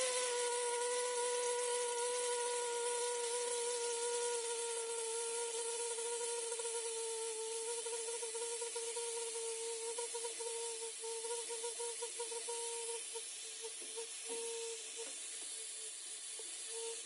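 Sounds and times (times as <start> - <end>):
air hissing from water tap: 0.0 - 8.2, 8.8 - 17.0.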